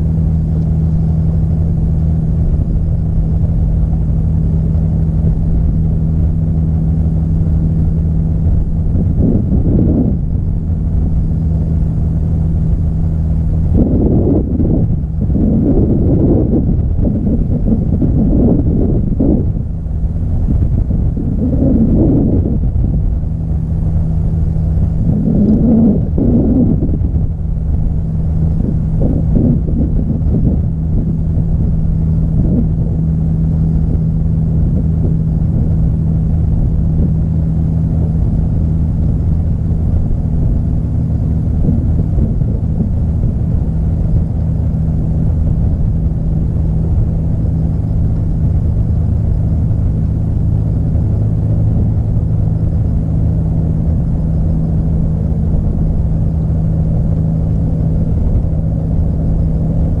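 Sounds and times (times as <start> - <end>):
low engine drone: 0.0 - 60.0.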